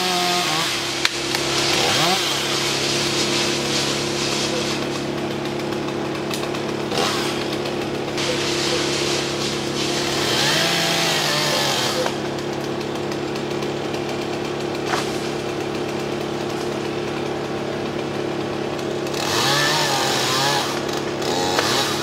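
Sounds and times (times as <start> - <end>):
chainsaw revving: 0.0 - 22.0.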